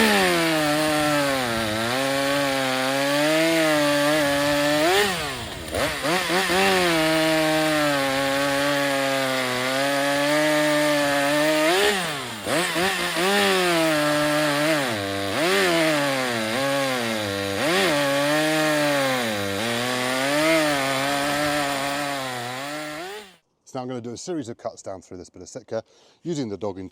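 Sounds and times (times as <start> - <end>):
chainsaw cutting wood: 0.0 - 23.4.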